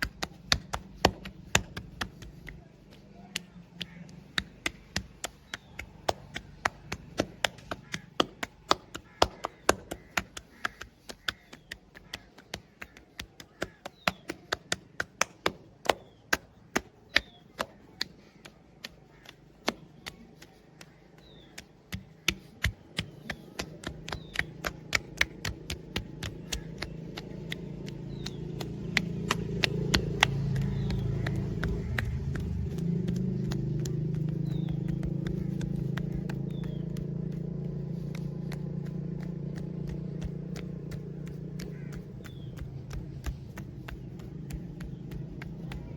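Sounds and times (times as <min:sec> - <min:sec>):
hands chopping on body: 0:00.0 - 0:45.9.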